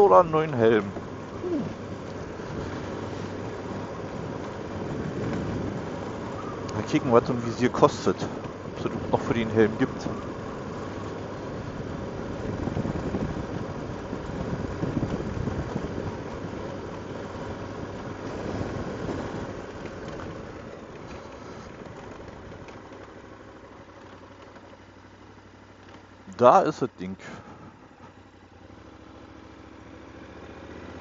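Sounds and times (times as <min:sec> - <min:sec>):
motorcycle engine at low speed: 0:00.0 - 0:31.0
tyres rumbling on cobblestones: 0:00.0 - 0:31.0.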